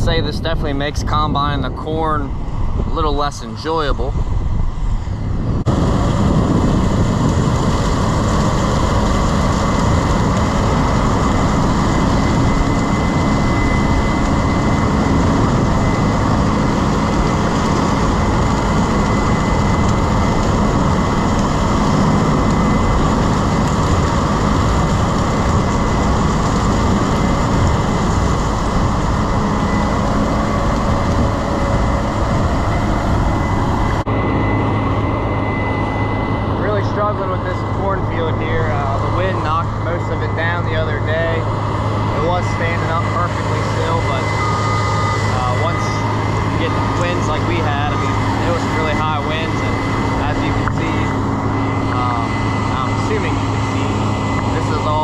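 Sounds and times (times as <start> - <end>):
heavy farm machinery drone: 0.0 - 55.0
thin high whine: 0.0 - 55.0.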